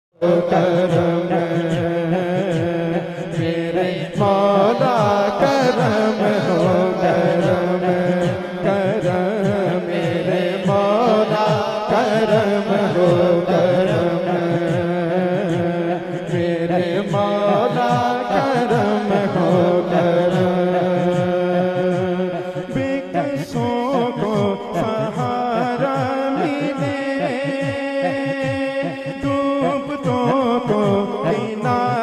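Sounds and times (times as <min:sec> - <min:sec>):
layered chanting voices: 0:00.2 - 0:32.0.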